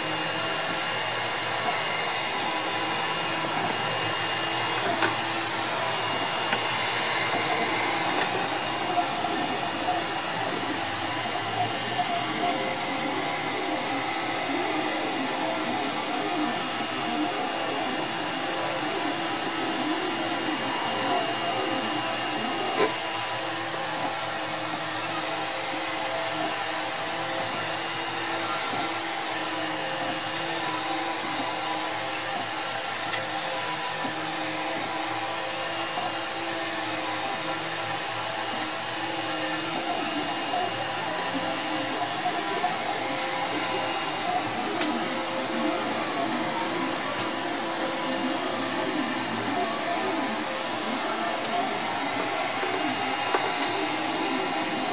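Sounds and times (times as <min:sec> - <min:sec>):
printer fans and motors whirring: 0:00.0 - 0:54.9.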